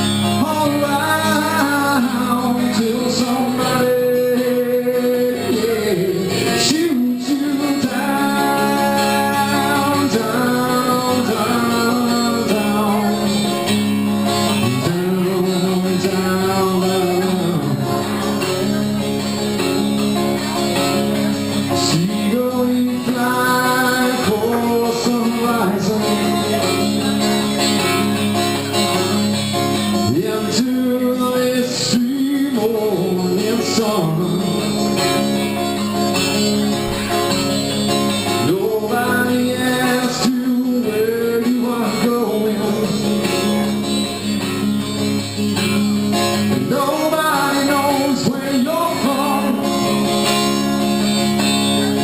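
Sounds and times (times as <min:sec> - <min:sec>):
live rock ballad with guitar: 0:00.0 - 0:52.0.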